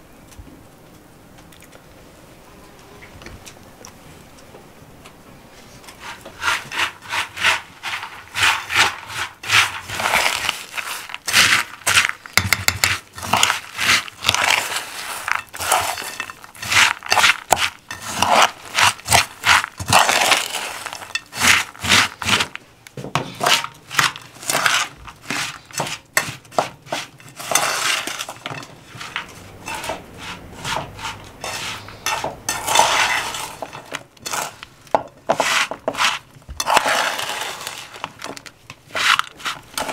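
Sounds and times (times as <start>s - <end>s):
spoon scraping metal bowl: 5.9s - 22.6s, 23.3s - 39.9s.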